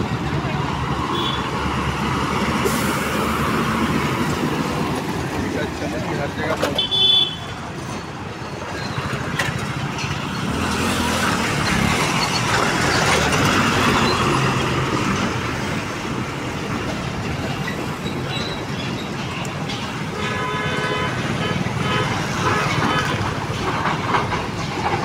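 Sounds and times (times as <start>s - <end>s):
heavy truck passing: 0.0s - 6.8s, 7.5s - 25.0s
road traffic: 0.0s - 25.0s.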